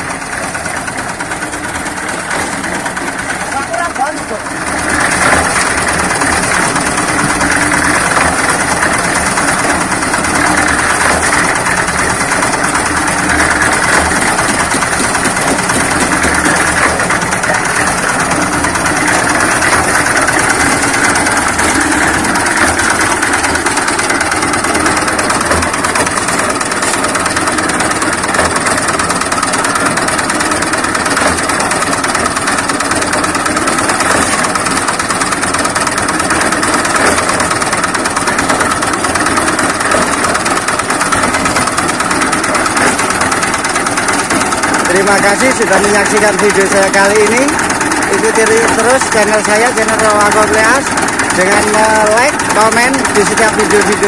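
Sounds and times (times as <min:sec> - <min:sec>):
concrete mixer diesel engine running: 0:00.0 - 0:54.0.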